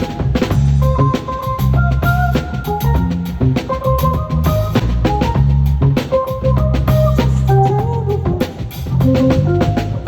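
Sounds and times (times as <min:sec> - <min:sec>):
drum kit beat: 0:00.0 - 0:10.0
live band playing: 0:00.0 - 0:10.0.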